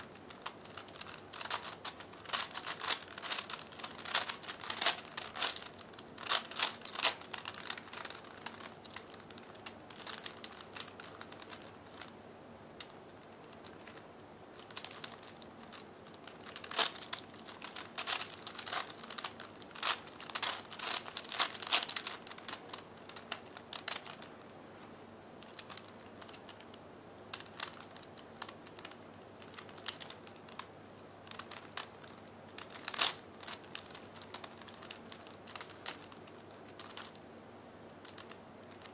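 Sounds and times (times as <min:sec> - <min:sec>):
puzzle cube layers clicking: 0:00.0 - 0:12.1, 0:14.6 - 0:24.3, 0:25.4 - 0:30.7, 0:31.3 - 0:37.2, 0:38.0 - 0:38.9.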